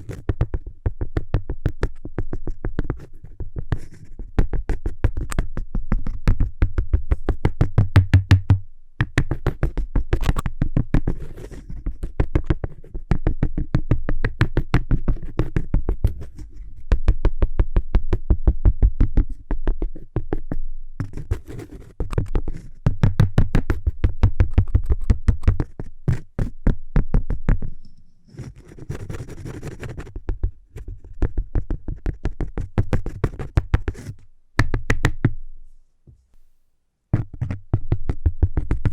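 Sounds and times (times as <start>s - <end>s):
scratching on cork: 0.0s - 17.4s, 19.3s - 35.3s, 37.2s - 38.9s.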